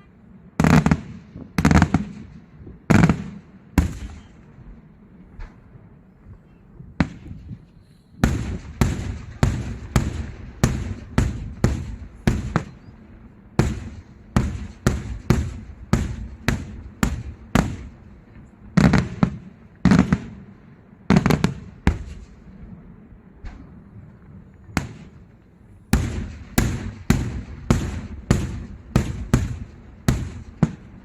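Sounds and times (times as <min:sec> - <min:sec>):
fireworks bangs: 0:00.0 - 0:04.8, 0:07.0 - 0:31.0
deep fireworks booms: 0:00.0 - 0:06.2, 0:06.8 - 0:31.0.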